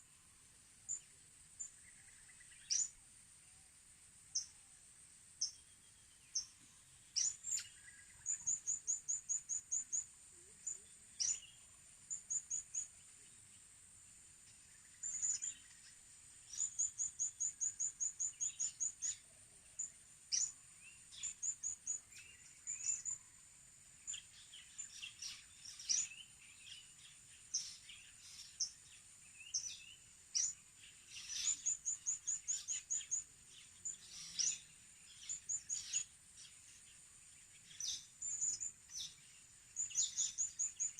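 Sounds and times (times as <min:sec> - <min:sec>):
small birds chirping: 0:00.0 - 0:40.9
steady high hiss: 0:00.0 - 0:40.9.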